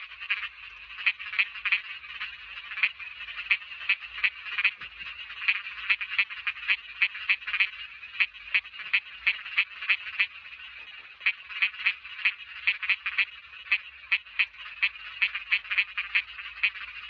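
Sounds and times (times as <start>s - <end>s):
small frogs calling: 0.0s - 17.0s.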